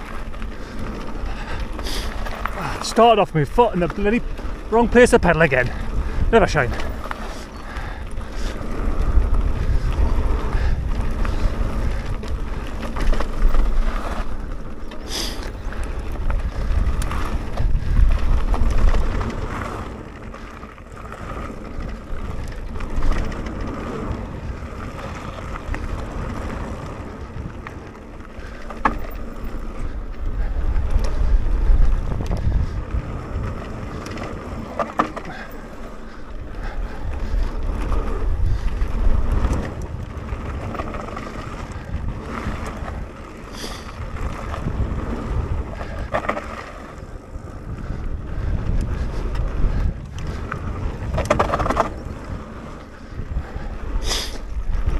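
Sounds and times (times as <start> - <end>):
bike tyres rolling on dirt: 0.0 - 54.9
wind rumbling on microphone: 0.0 - 54.9.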